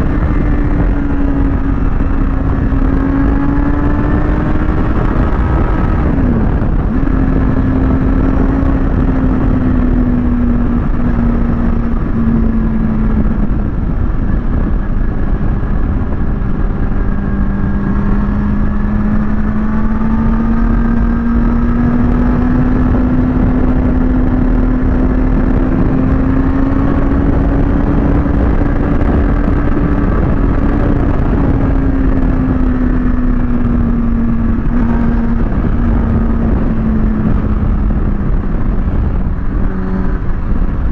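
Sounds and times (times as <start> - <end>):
motorcycle engine cruising: 0.0 - 40.9
wind noise: 0.0 - 40.9.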